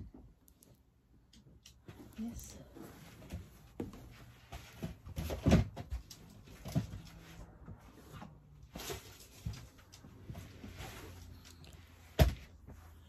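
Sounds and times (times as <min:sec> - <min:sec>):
soft knocks and rustles of handling: 0:00.0 - 0:13.0.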